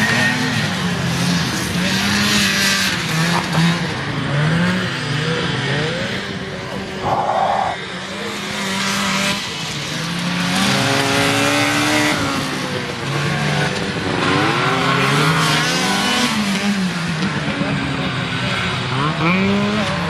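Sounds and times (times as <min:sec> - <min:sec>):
two-stroke snowmobile engines racing: 0:00.0 - 0:20.0.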